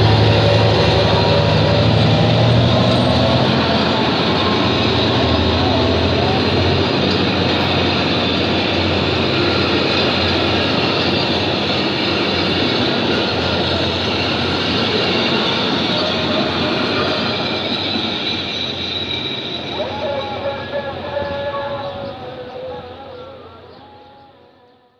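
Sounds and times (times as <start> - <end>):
train wheels clattering on rail: 0.0 - 20.6
wheel squeal: 0.2 - 20.4.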